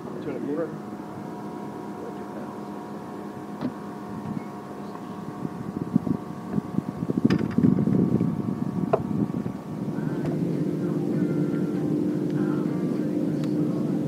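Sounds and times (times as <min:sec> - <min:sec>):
electric boat motor humming: 0:00.0 - 0:14.0.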